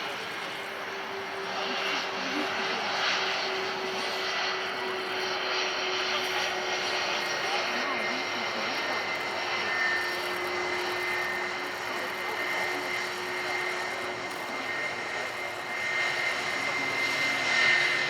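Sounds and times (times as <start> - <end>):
jet engines running with whine: 0.0 - 18.0.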